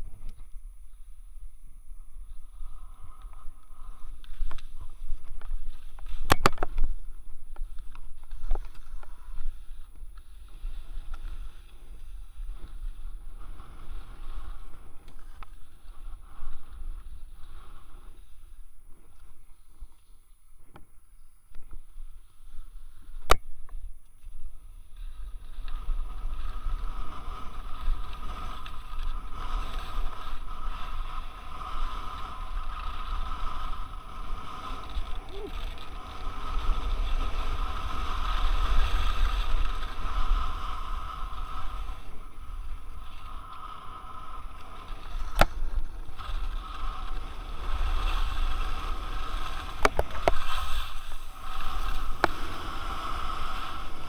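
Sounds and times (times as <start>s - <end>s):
skis scraping on snow: 0.0s - 20.3s, 21.7s - 23.3s, 24.1s - 54.0s
wind rumbling on microphone: 0.0s - 54.0s.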